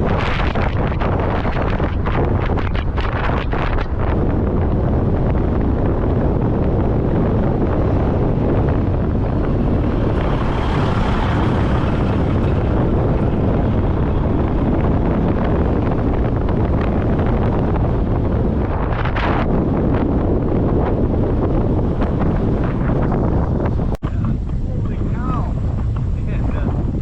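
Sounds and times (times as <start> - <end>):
harvest machinery rumbling: 0.0 - 27.0
wind buffeting microphone: 0.0 - 27.0.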